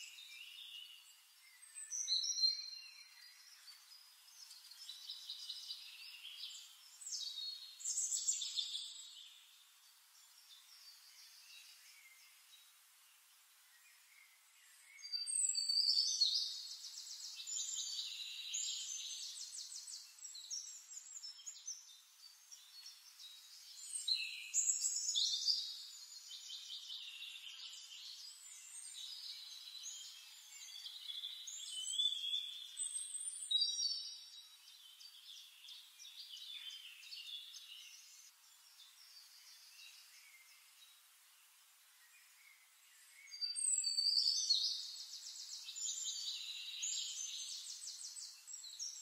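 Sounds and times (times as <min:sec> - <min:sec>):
songbird singing trills: 0:00.0 - 0:12.6, 0:13.8 - 0:41.0, 0:42.0 - 0:49.0.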